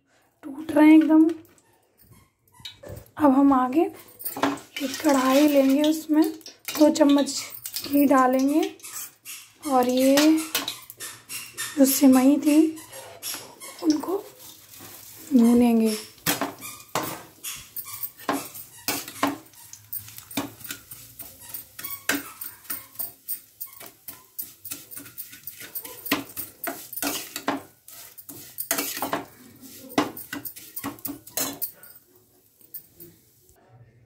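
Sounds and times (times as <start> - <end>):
steel spoon scraping a pan: 2.0 - 33.5.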